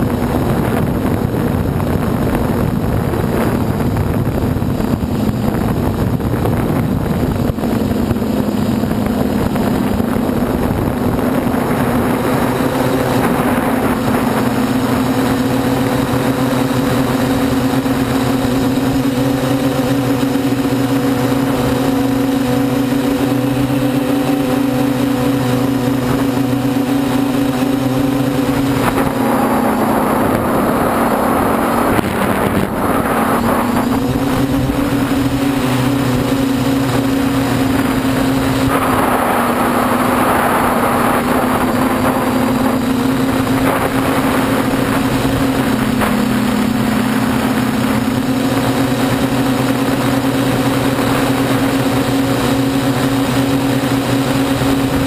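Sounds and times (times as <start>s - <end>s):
drone propellers humming: 0.0s - 55.0s
rushing noise: 0.0s - 55.0s.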